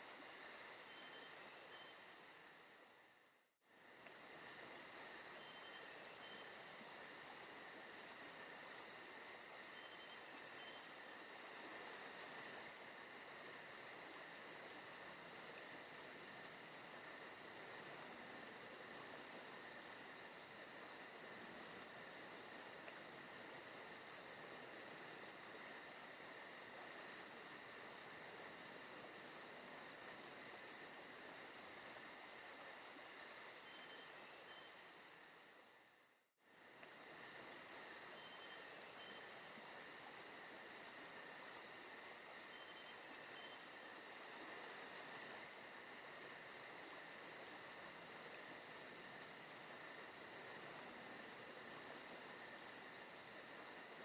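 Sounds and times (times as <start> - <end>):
constant hiss: 0.0 - 54.0.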